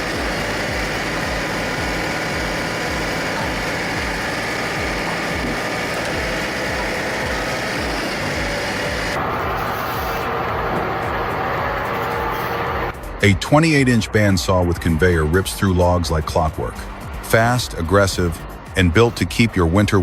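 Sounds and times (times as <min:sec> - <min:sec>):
heavy machinery engine rumbling: 0:00.0 - 0:20.0.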